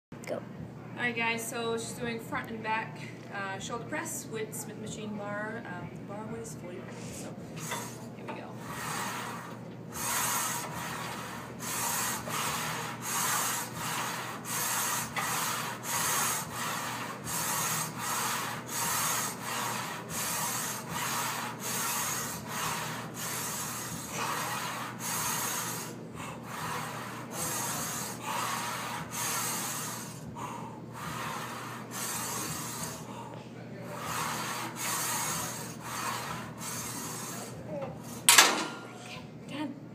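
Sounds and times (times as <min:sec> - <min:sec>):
rhythmic rasping strokes: 0:06.2 - 0:38.6.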